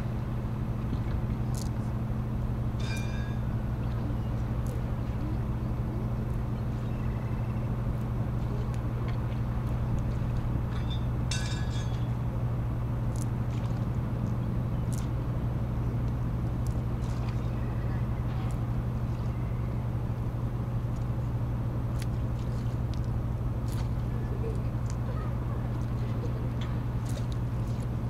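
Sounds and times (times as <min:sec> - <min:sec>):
engine idling hum: 0:00.0 - 0:28.0.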